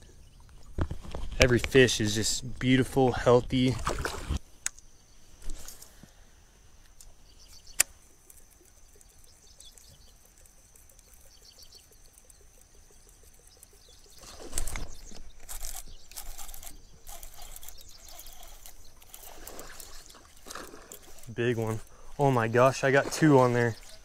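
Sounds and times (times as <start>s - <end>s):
small birds chirping faintly: 4.4s - 24.0s.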